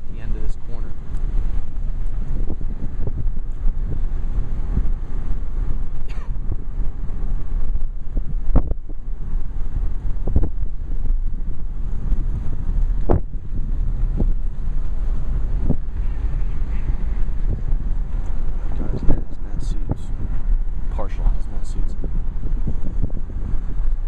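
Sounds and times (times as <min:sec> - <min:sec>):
car engine and road rumble: 0:00.0 - 0:24.0
wind buffeting microphone: 0:00.0 - 0:24.0.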